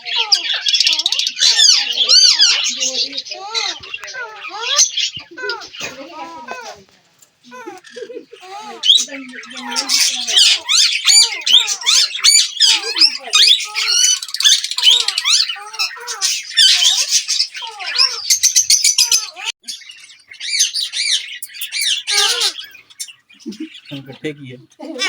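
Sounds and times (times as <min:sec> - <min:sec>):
parakeets squawking and chattering: 0:00.0 - 0:25.0.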